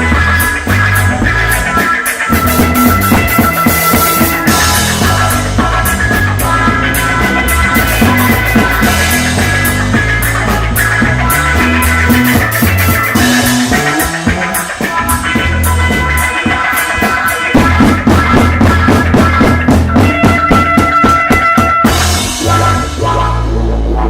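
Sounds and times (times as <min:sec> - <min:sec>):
deep bass notes: 0:00.0 - 0:21.0, 0:21.8 - 0:24.0
drum kit: 0:00.0 - 0:24.0
electric guitar: 0:00.0 - 0:24.0.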